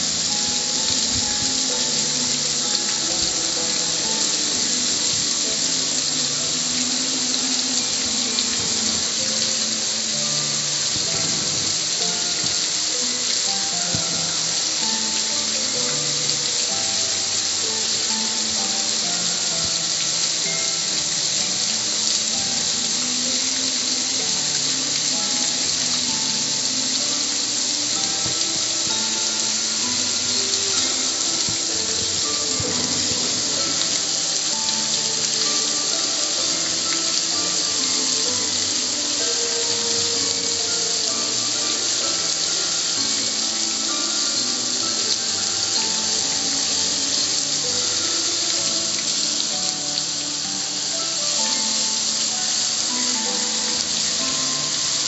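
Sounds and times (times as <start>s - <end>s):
background music: 0.0s - 55.0s
hose spraying water on metal: 0.0s - 55.0s.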